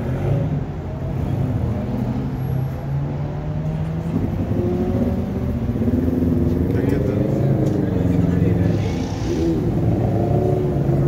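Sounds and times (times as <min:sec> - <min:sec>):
car engines humming: 0:00.0 - 0:11.0.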